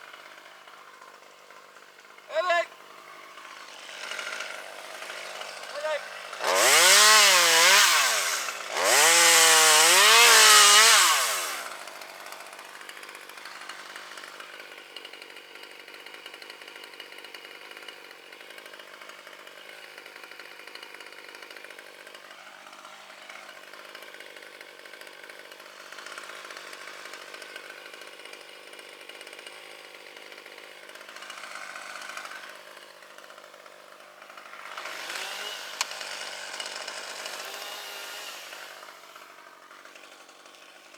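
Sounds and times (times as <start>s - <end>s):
chainsaw revving and running: 0.0s - 40.9s.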